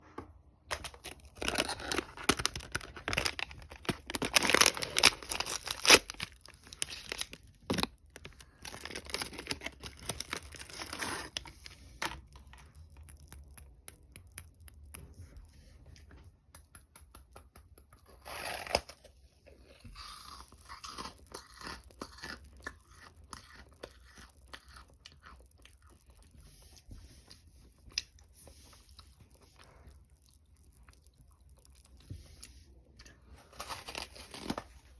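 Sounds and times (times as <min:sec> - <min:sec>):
crunching and chewing crisp food: 0:00.7 - 0:15.4, 0:18.0 - 0:34.9.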